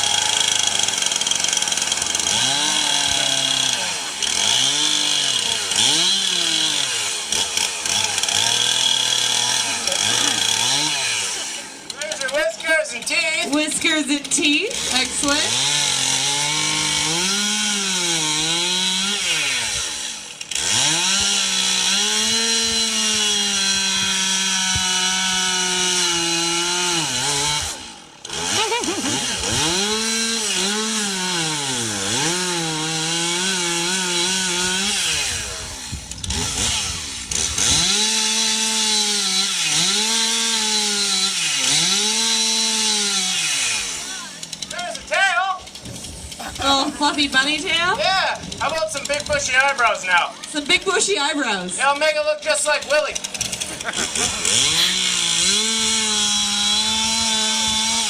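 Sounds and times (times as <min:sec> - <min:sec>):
chainsaw carving wood: 0:00.0 - 0:58.0.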